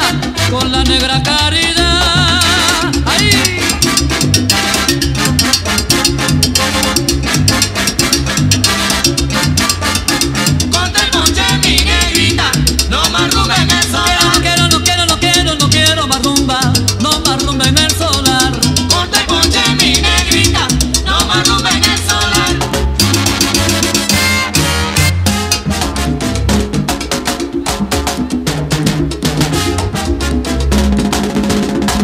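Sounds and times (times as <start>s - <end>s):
salsa music: 0.0s - 32.0s.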